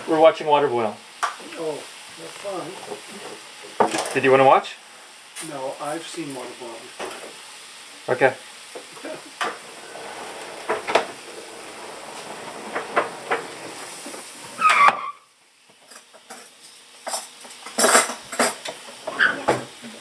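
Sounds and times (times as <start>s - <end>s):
droplets crackling and popping: 0.0s - 20.0s
water sizzling on hot griddle: 0.0s - 20.0s.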